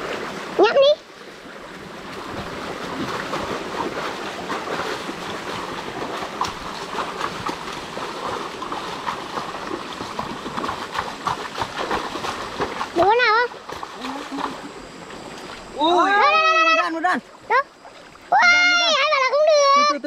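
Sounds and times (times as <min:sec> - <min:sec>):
water splashing from wading: 0:00.0 - 0:19.2
flowing water rushing: 0:00.0 - 0:20.0.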